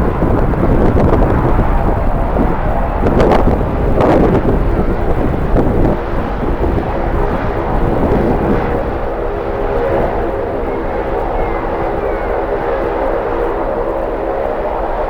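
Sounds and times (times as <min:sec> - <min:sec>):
jet engines humming: 0:00.0 - 0:15.0
wind buffeting microphone: 0:00.0 - 0:15.0.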